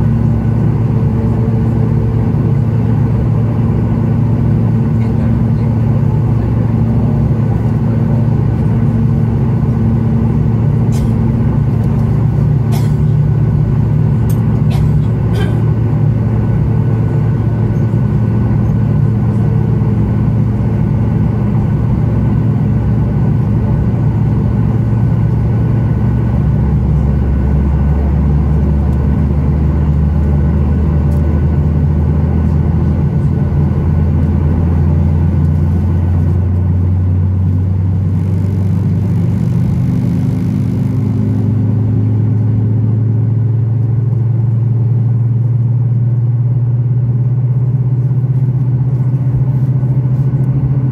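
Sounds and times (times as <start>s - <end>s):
aircraft cabin engine drone: 0.0s - 50.9s.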